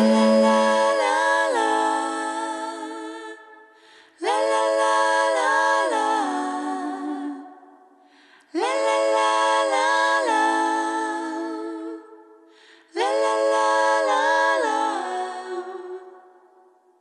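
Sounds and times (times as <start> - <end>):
a cappella voices singing chords: 0.0 - 17.0.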